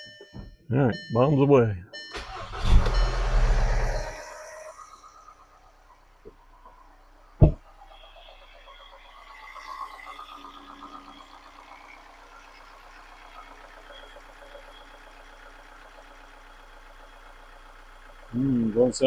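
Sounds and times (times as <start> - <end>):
car engine idling with ticking: 2.1 - 19.0.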